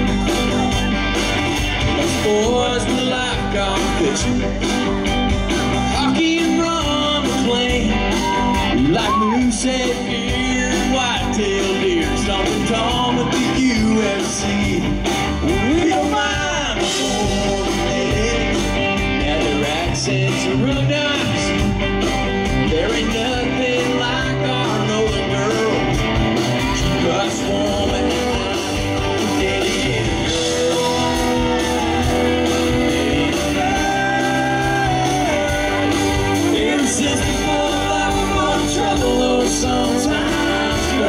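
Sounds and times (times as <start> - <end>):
acoustic guitar: 0.0 - 41.0
drums: 0.0 - 41.0
electric guitar: 0.0 - 41.0
person singing: 1.9 - 21.8, 22.5 - 41.0.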